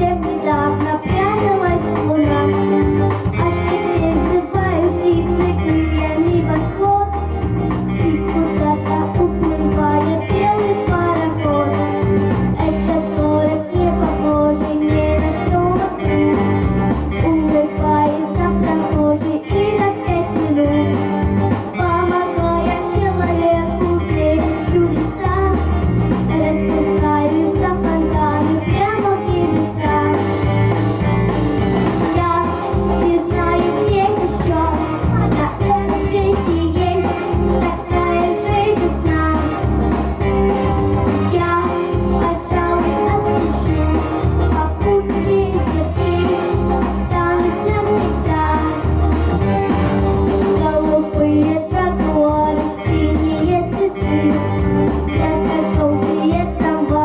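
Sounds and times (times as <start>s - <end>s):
woman singing: 0.0s - 12.0s, 12.6s - 30.4s, 32.1s - 39.9s, 41.1s - 49.0s, 50.4s - 57.0s
band with guitar: 0.0s - 57.0s.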